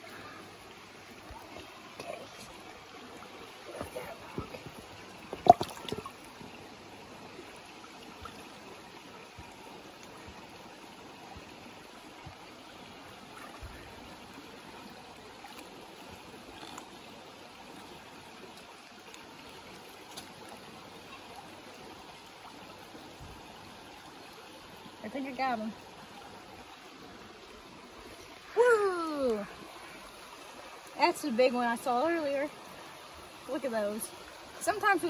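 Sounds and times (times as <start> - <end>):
creek water trickling over rocks: 0.0 - 35.0.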